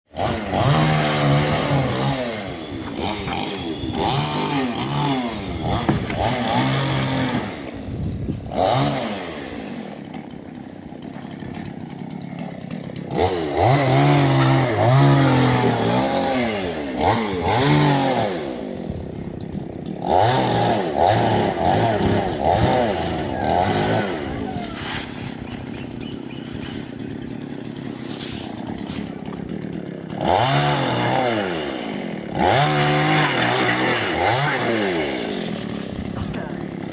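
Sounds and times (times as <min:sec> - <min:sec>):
chainsaw cutting wood: 0:00.1 - 0:36.9.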